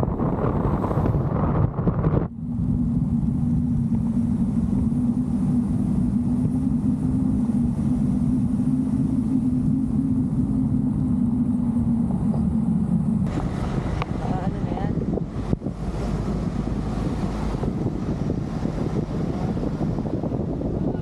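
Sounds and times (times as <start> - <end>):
vehicle engine drone: 0.0 - 21.0.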